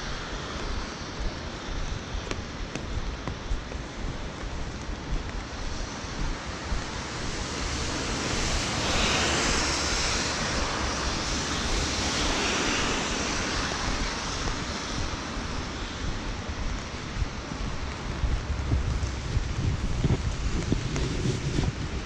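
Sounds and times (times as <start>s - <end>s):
steady rain: 0.0s - 22.0s
tyre hiss of traffic on wet street: 0.0s - 22.0s.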